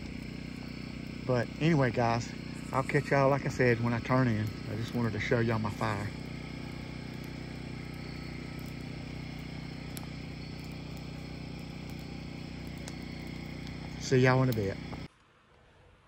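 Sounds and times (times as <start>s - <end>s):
campfire crackling: 0.0s - 15.1s
steady low hum: 0.0s - 15.1s.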